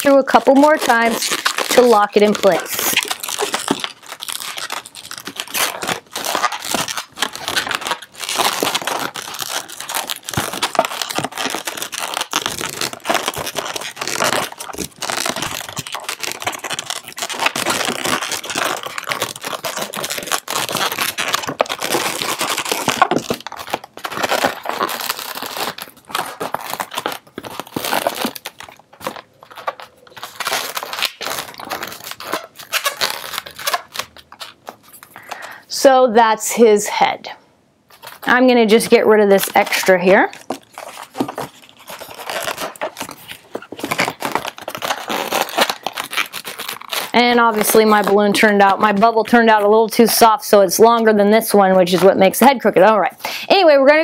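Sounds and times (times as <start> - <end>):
balloons squeaking and rubbing: 0.0 - 35.5, 38.0 - 52.8.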